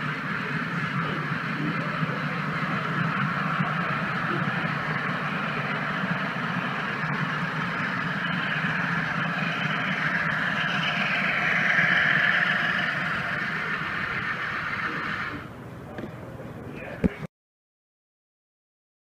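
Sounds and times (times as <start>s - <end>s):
model locomotive passing: 0.0s - 16.8s
model train wheels on track: 0.0s - 17.2s.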